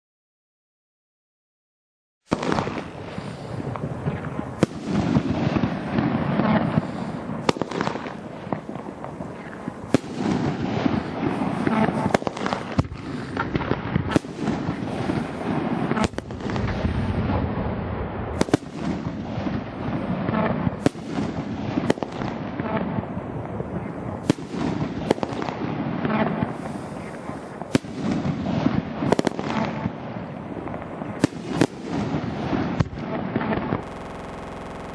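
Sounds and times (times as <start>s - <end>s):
fireworks launching and bursting: 2.3s - 34.9s
loud firework reports: 2.3s - 34.9s.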